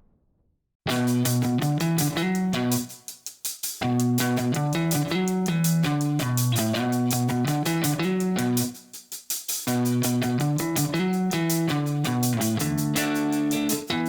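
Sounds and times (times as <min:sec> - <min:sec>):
guitar-led background music: 0:00.9 - 0:03.0, 0:03.8 - 0:08.8, 0:09.7 - 0:14.0.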